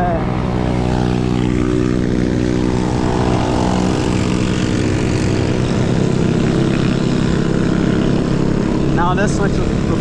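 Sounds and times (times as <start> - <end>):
vehicle motor droning: 0.0 - 8.9
wind rumbling on microphone: 0.0 - 10.0.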